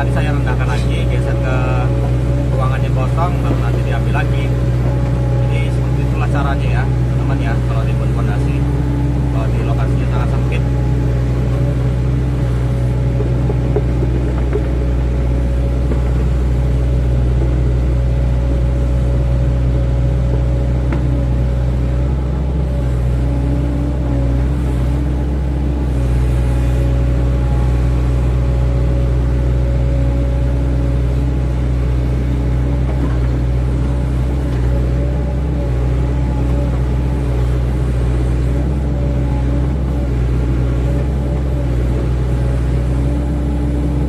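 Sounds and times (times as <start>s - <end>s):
excavator diesel engine running: 0.0s - 44.0s
steady whine: 0.0s - 44.0s.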